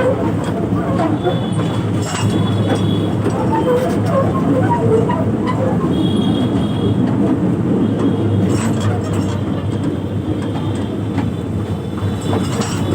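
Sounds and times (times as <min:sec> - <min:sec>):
sharp clicks of train: 0:00.0 - 0:12.9
toy train rumbling on track: 0:00.0 - 0:12.9.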